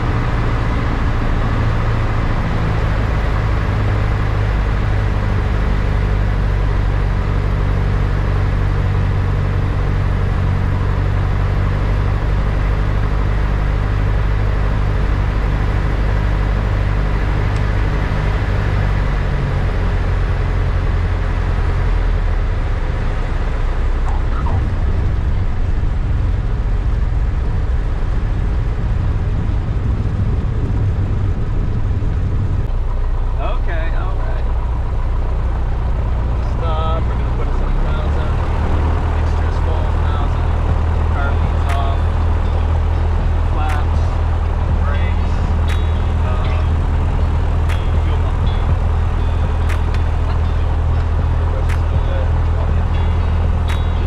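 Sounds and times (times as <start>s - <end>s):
propeller airplane engine droning: 0.0s - 54.0s.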